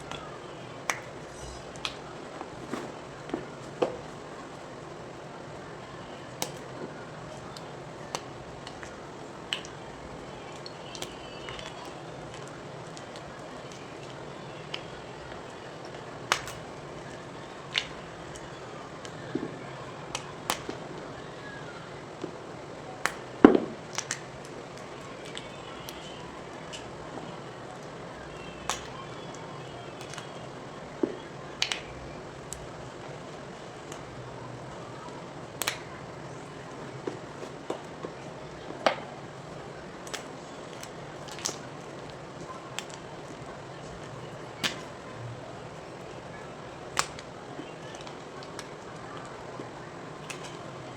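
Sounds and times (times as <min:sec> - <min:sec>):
steady background hiss: 0:00.0 - 0:50.9.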